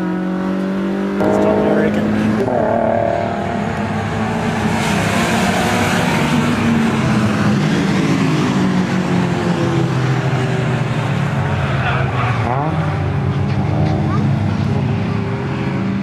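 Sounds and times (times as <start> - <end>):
car engine at high revs: 0.0 - 16.0
wind and tyre noise: 0.0 - 16.0.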